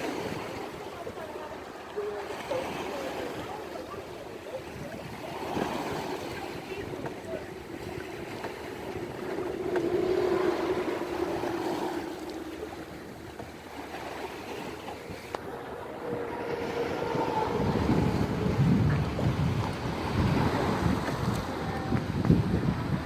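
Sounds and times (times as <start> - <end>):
sea waves washing: 0.0 - 23.0
wind buffeting microphone: 0.0 - 23.0.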